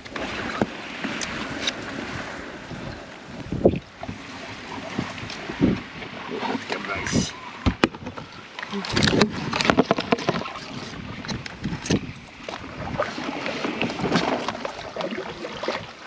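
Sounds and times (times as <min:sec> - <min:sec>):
paddle splashing in water: 0:00.0 - 0:16.0.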